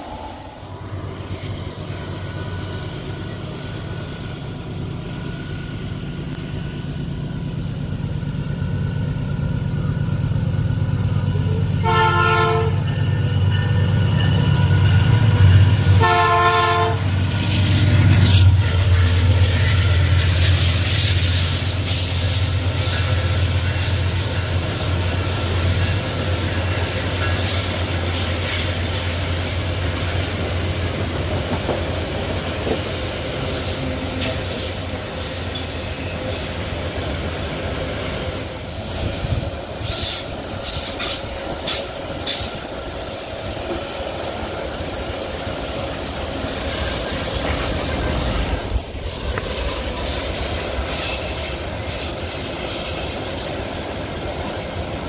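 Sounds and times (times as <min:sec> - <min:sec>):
train wheels squealing: 0:00.0 - 0:11.9, 0:12.5 - 0:16.0, 0:17.0 - 0:55.0
diesel locomotive drone: 0:00.0 - 0:55.0.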